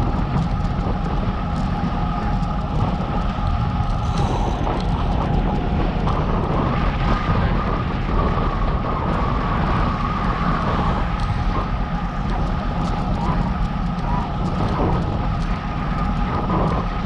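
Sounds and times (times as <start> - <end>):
road rush: 0.0 - 17.0
wind on microphone: 0.0 - 17.0.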